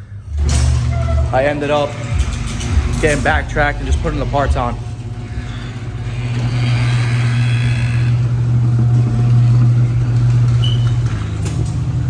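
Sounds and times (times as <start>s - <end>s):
car engine running: 1.3s - 12.0s.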